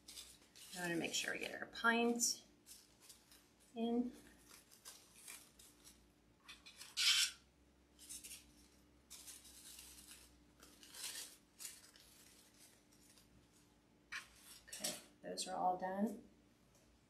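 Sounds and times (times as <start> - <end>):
artificial flowers rustling: 0.0 - 15.2.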